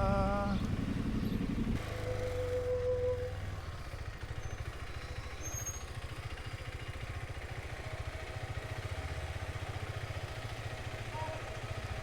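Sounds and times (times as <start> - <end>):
motorcycle engine at low revs: 0.0 - 2.7, 3.3 - 12.0.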